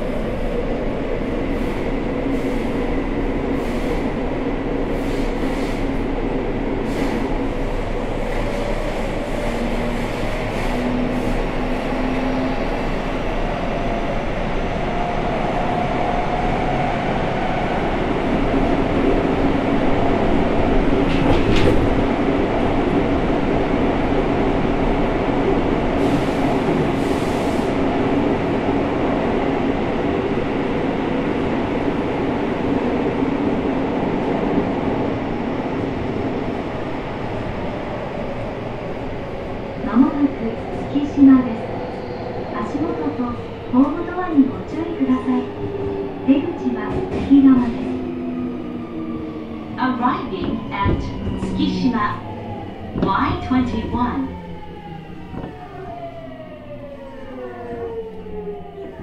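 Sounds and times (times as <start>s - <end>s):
train wheel and tunnel rumble: 0.0s - 59.0s.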